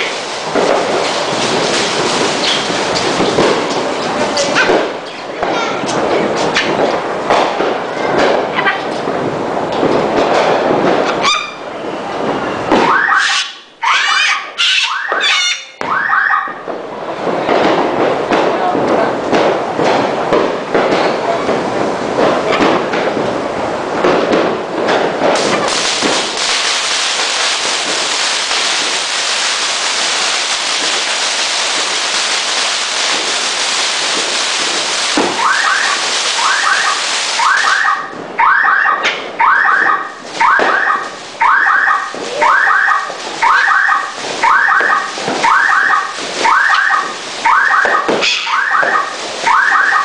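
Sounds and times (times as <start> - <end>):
fireworks fizzing and crackling: 0.0 - 50.0.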